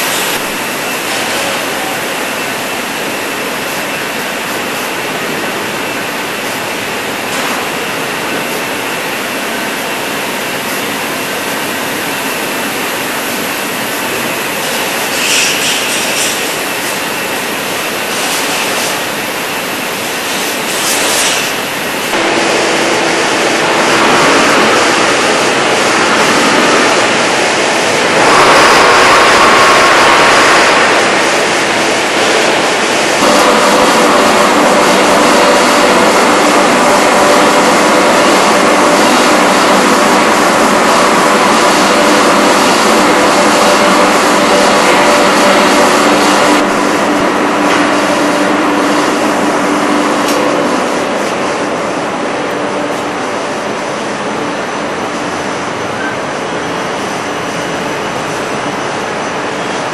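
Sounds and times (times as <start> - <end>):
factory machinery noise: 0.0 - 59.9
ventilation noise: 0.0 - 59.9.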